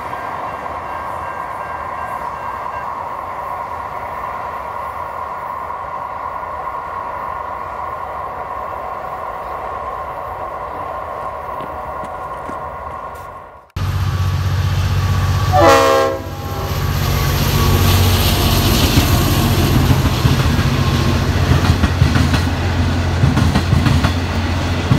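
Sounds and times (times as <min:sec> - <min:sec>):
train wheel-and-rail noise: 0:00.0 - 0:24.9.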